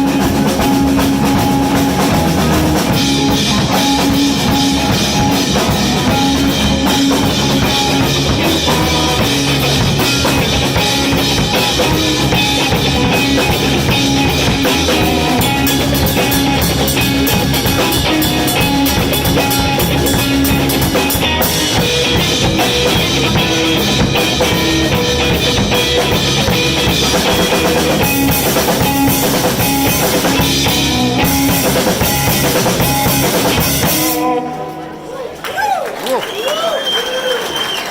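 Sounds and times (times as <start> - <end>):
blues rock band playing: 0.0 - 36.1.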